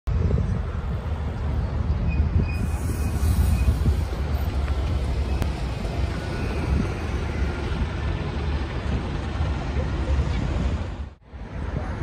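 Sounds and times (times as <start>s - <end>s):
city traffic: 0.1s - 12.0s
bus engine rumbling past: 0.2s - 12.0s.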